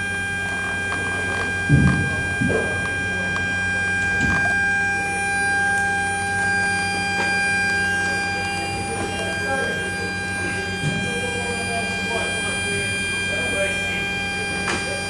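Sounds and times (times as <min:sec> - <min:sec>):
low hum: 0:00.0 - 0:15.0
machinery high-pitched whine: 0:00.0 - 0:15.0.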